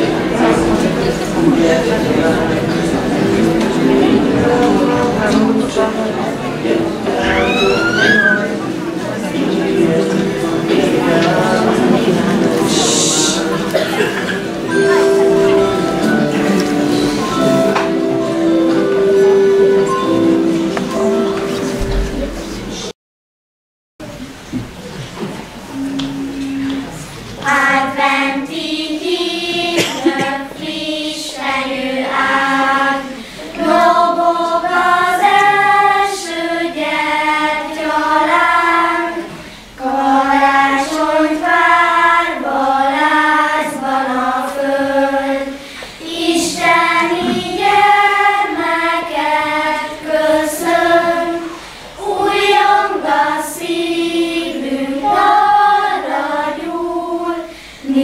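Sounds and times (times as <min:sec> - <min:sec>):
children's choir singing: 0:00.0 - 0:22.9, 0:24.2 - 0:58.0.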